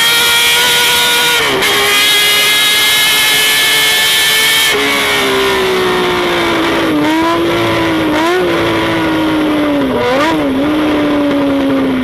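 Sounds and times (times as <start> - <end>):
high-revving engine: 0.0 - 12.0.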